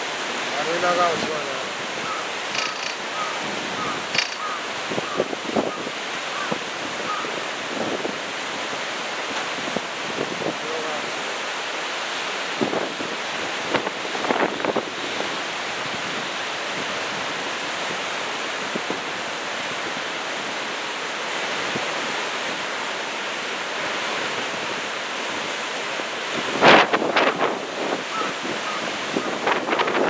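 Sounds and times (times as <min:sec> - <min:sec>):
surf waves breaking on beach: 0:00.0 - 0:30.0.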